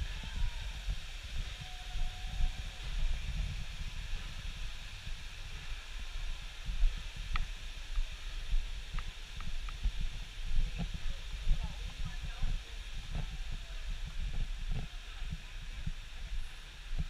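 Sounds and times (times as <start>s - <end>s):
steady outdoor hiss: 0.0s - 17.0s
wind buffeting microphone: 0.0s - 17.0s.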